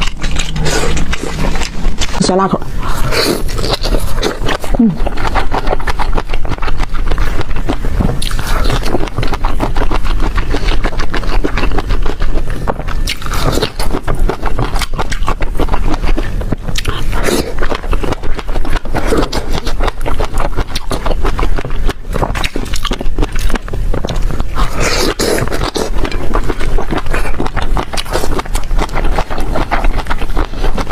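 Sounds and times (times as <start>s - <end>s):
person chewing crunchy food: 0.0s - 30.9s.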